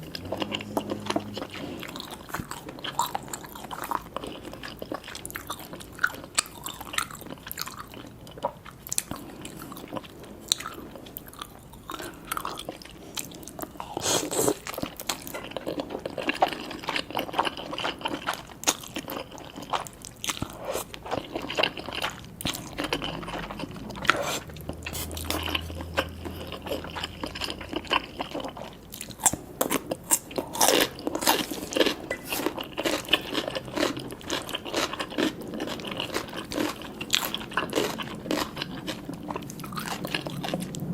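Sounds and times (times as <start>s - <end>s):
chewing and crunching noodles: 0.0s - 40.9s.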